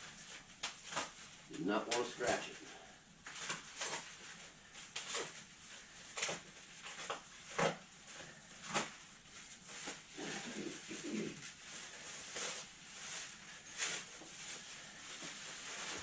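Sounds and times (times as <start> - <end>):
bubble wrap rustling and crackling: 0.0 - 16.0.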